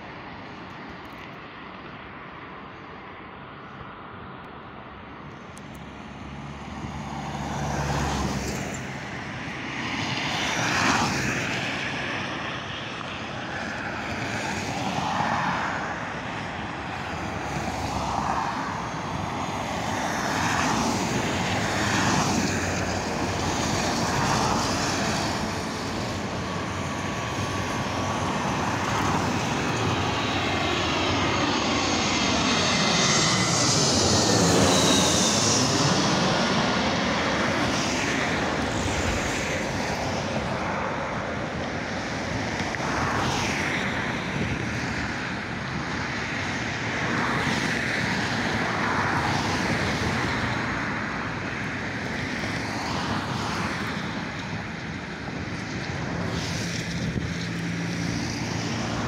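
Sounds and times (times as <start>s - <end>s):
jet airliner engine rushing: 0.0s - 59.0s.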